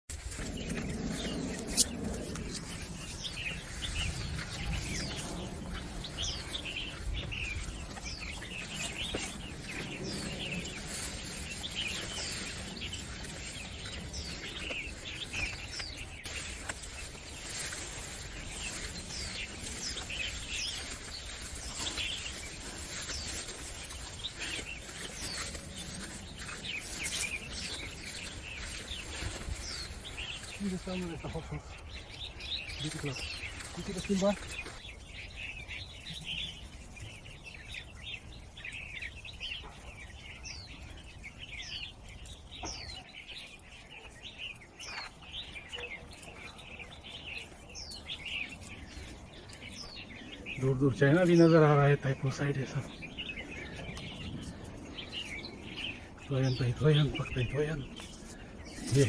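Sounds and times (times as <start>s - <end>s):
small birds chirping: 0.1s - 59.0s.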